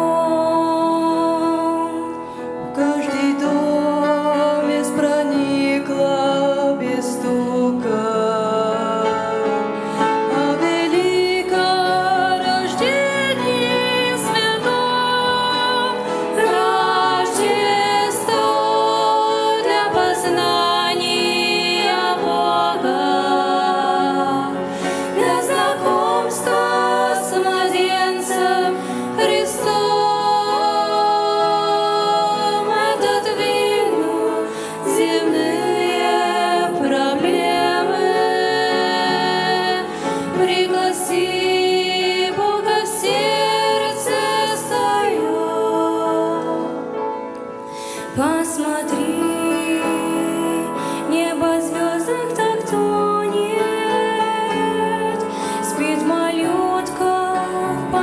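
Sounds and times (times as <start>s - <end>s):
voices singing together: 0.0s - 47.2s, 48.1s - 58.0s
instrumental accompaniment: 7.3s - 58.0s.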